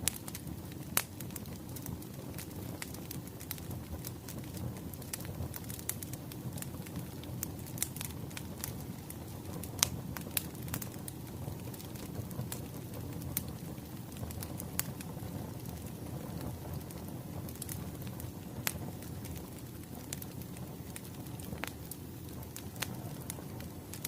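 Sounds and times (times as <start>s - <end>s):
low rumble of burning logs: 0.0s - 24.0s
wood fire pops and snaps: 0.0s - 24.0s.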